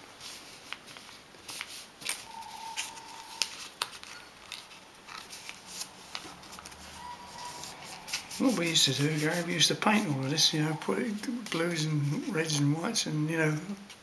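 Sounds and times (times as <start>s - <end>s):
paper crinkling and rustling: 0.0s - 12.7s.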